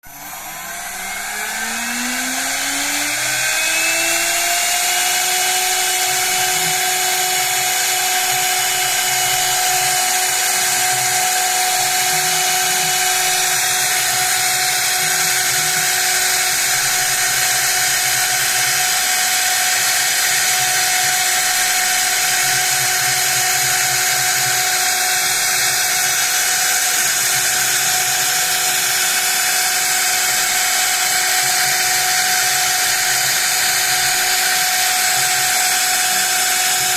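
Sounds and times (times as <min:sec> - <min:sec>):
milling spindle whine: 0:00.0 - 0:36.9.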